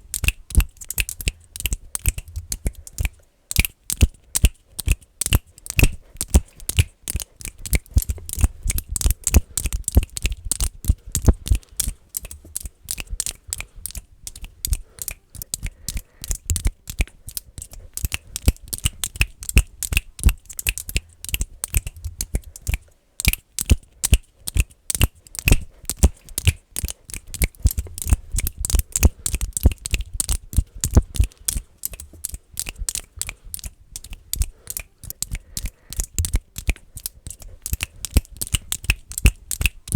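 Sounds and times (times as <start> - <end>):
finger clicking close to microphone: 0.1 - 39.9.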